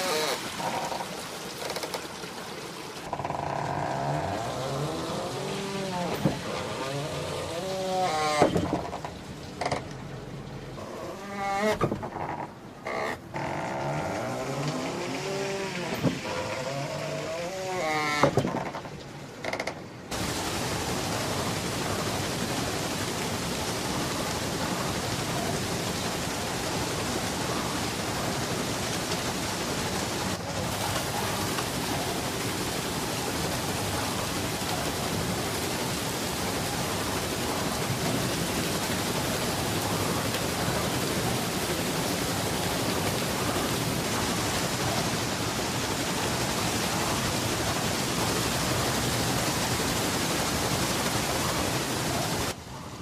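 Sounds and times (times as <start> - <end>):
water splashing over water wheel: 0.0 - 53.0.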